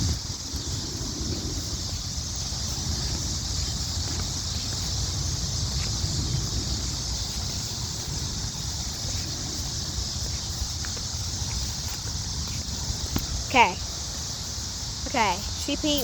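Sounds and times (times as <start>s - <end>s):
steady high-pitched hiss: 0.0s - 16.0s
wind buffeting microphone: 0.0s - 16.0s.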